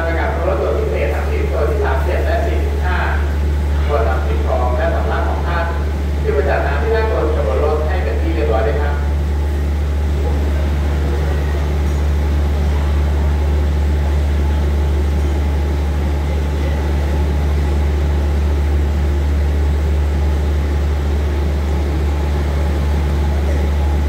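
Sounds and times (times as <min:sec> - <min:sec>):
train engines idling: 0:00.0 - 0:24.0.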